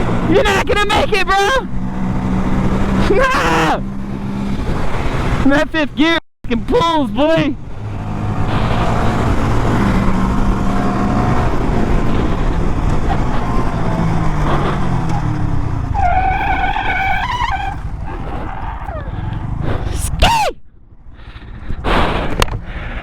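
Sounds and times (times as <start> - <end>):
heavy wind noise: 0.0 - 5.9, 6.7 - 23.0.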